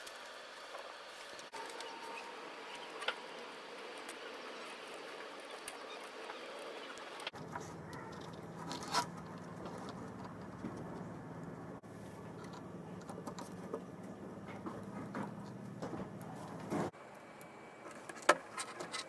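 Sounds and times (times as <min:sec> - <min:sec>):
low hum: 0:01.5 - 0:18.1.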